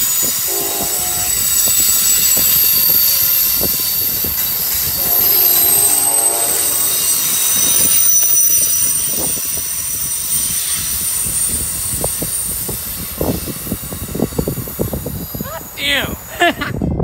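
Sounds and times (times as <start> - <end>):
high wheel squeal: 0.0 - 16.5
train wheels rumbling on rail: 0.0 - 17.0.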